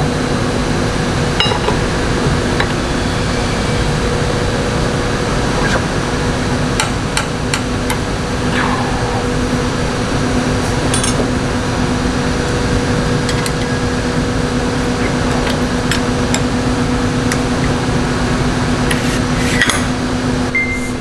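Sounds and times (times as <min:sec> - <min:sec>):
workshop machine hum: 0:00.0 - 0:21.0.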